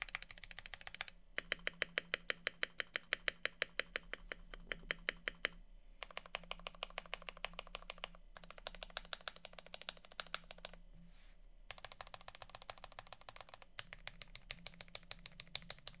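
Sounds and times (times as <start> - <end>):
rapid mechanical keyboard typing: 0.0 - 10.8, 11.7 - 16.0.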